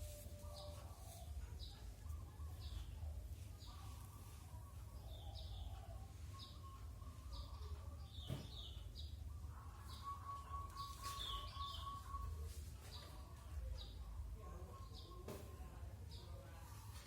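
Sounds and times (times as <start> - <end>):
bird chirping: 0.0 - 15.4
faint low hum: 0.0 - 17.0.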